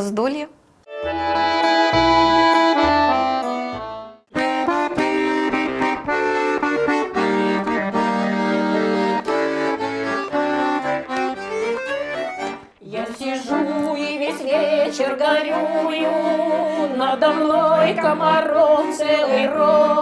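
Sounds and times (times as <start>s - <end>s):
button accordion playing: 0.9s - 20.0s.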